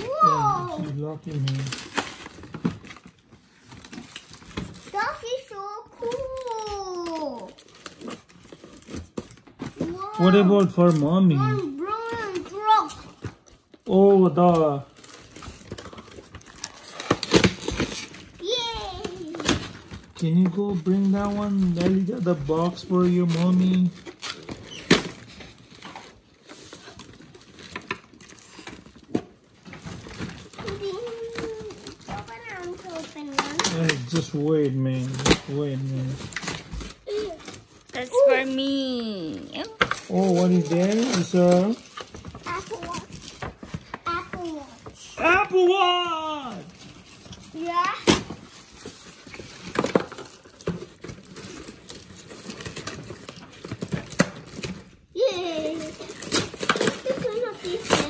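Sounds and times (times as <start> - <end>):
packing rustling: 0.0 - 58.0.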